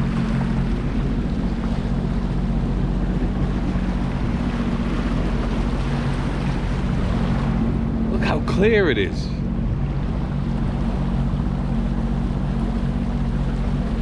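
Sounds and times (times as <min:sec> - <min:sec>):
water splashing along hull: 0:00.0 - 0:14.0
watercraft engine drone: 0:00.0 - 0:14.0
wind buffeting microphone: 0:00.0 - 0:14.0.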